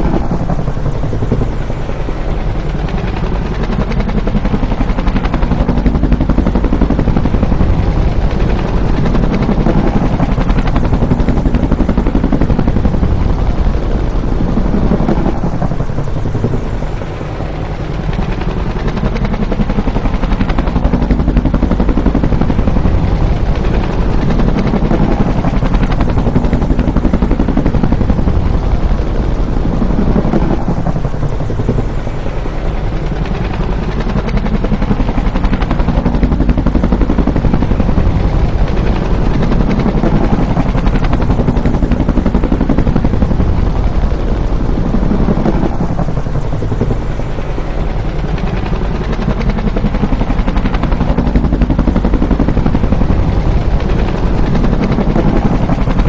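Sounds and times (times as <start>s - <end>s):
helicopter rotor chopping: 0.0s - 56.0s.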